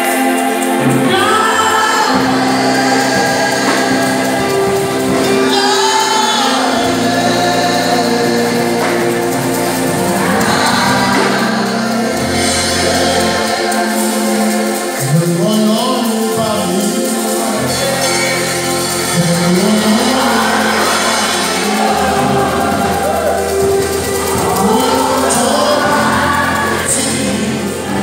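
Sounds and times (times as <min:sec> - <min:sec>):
band with bass line: 0:00.0 - 0:28.0
choir singing: 0:00.0 - 0:28.0
lead singer on microphone: 0:00.0 - 0:28.0.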